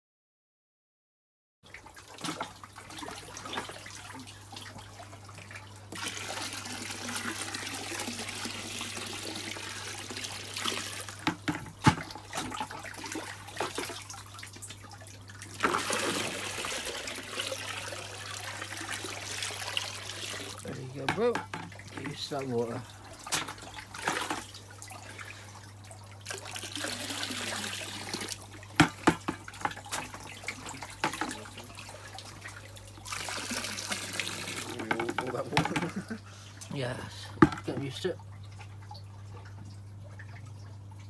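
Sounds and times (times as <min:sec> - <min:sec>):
water splashing in a tub: 0:01.6 - 0:41.0.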